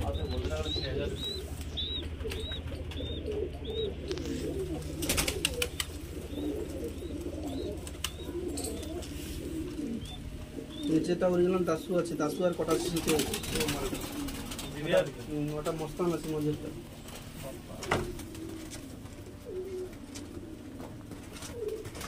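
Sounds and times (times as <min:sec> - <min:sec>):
low steady hum: 0:00.0 - 0:22.0
pigeons cooing: 0:00.0 - 0:22.0.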